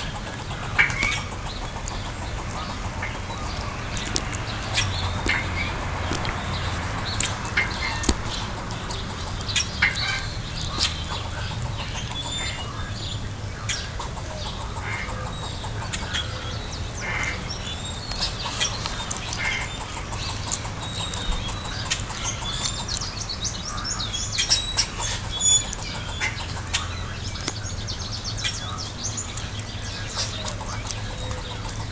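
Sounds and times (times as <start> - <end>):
squirrel calling: 0.0 - 31.9.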